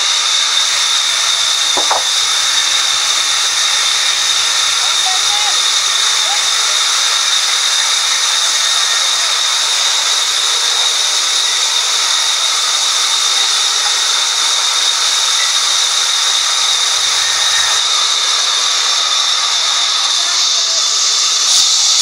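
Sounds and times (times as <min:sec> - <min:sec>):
band saw cutting wood: 0:00.0 - 0:22.0.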